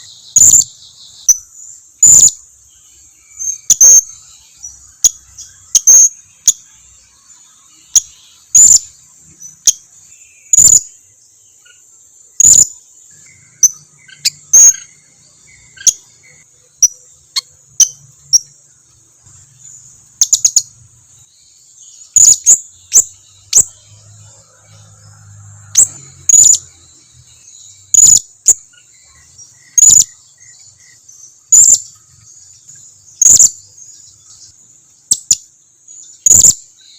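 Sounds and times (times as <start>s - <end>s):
high insect hiss: 0.0s - 36.9s.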